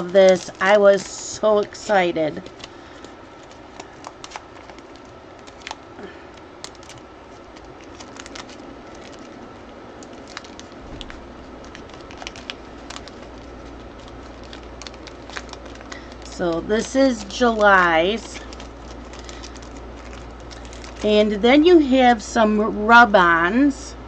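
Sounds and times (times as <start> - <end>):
paper rustling: 0.0 - 5.8, 6.6 - 21.2.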